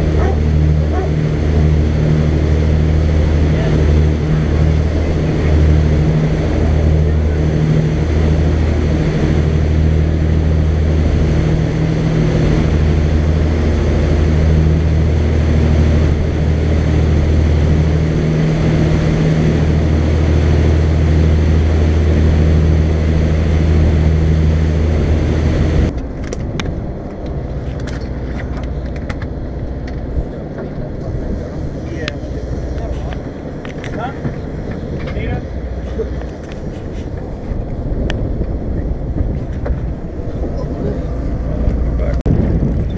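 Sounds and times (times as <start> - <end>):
boat engine droning: 0.0 - 42.9
churning wake rushing: 0.0 - 42.9.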